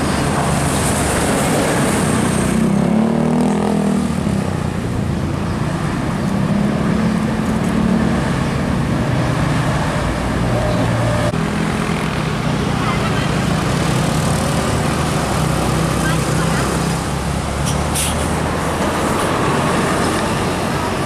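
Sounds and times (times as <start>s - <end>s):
bus engine passing: 0.0s - 21.0s
cars passing: 0.0s - 21.0s.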